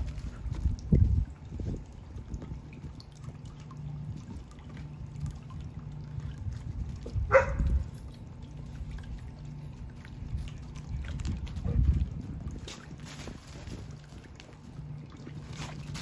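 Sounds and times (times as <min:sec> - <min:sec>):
water sloshing and trickling: 0:00.0 - 0:16.0.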